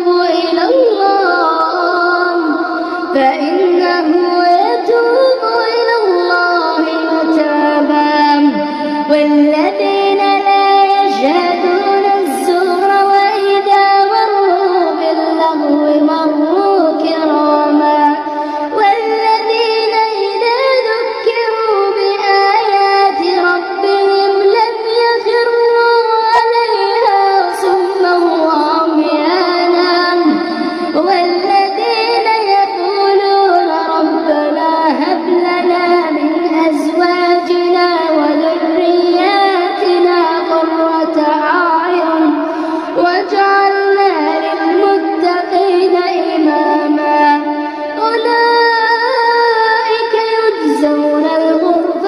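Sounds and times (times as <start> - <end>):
girl chanting recitation: 0.0 - 52.0.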